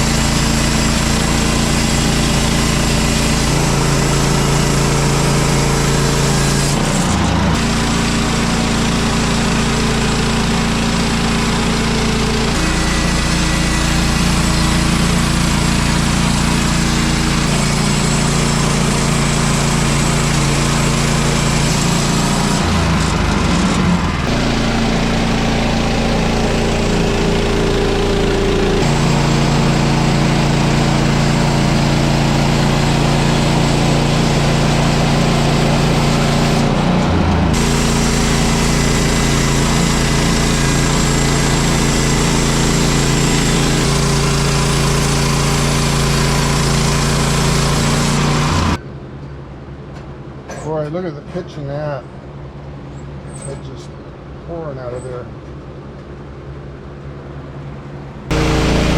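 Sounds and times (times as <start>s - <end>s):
sawmill gas engine sawing log: 0.0s - 48.8s, 58.3s - 58.9s.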